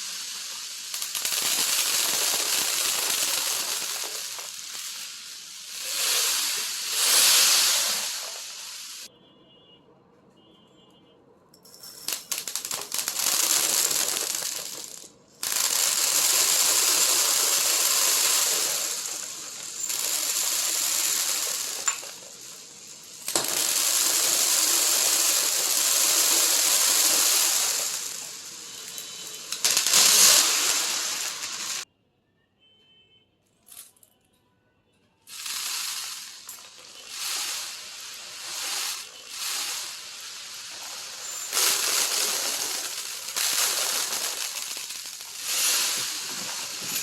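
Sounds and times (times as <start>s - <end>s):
glass marbles clattering: 0.0s - 9.0s, 11.6s - 31.8s, 35.3s - 47.0s.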